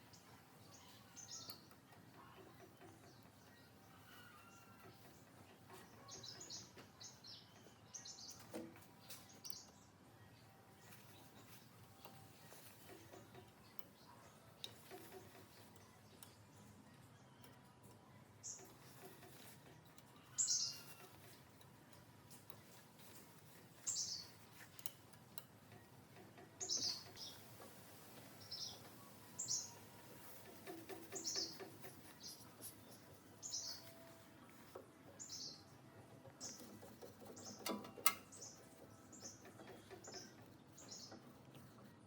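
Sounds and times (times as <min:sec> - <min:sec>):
small bird chirping: 0:00.0 - 0:42.0.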